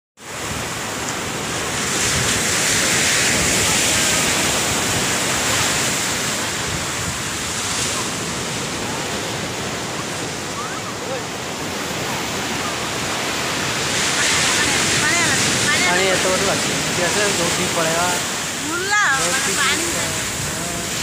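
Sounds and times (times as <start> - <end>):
surf breaking on beach: 0.2 - 21.0
wind buffeting microphone: 0.3 - 21.0.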